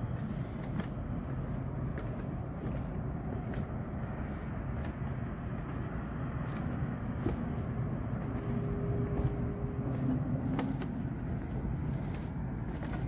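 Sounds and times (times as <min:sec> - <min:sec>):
distant city traffic rumble: 0:00.0 - 0:13.0.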